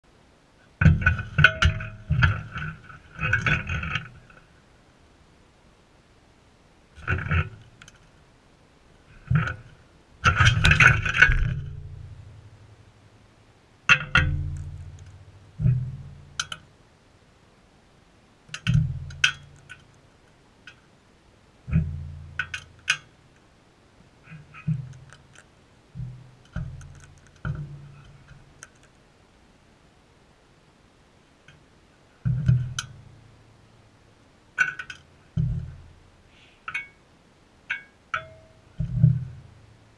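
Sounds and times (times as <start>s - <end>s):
low ringing hum: 0.0s - 39.9s.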